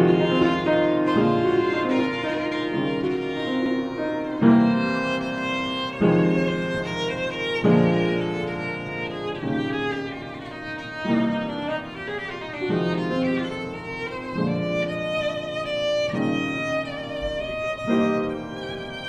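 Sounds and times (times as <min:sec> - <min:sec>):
piano chords: 0:00.0 - 0:19.0
violin melody: 0:00.0 - 0:19.0.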